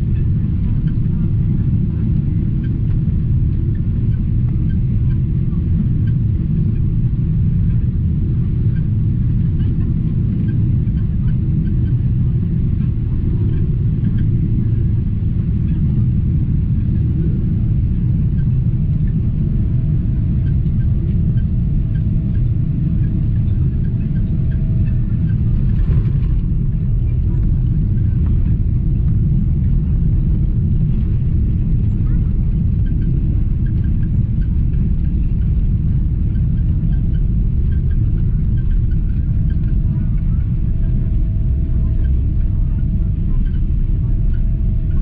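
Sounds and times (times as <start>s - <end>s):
aircraft engine and airflow rumble: 0.0s - 45.0s
faint steady whine: 0.0s - 45.0s.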